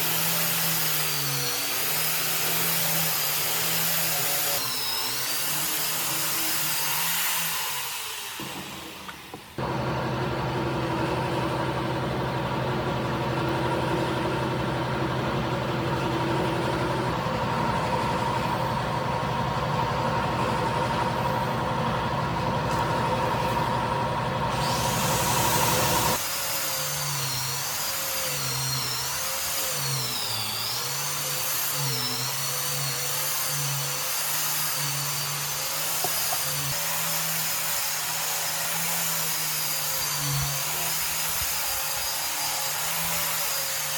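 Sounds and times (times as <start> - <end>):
power tool with wavering pitch: 0.0 - 43.9
woodworking power tool running: 0.0 - 43.9.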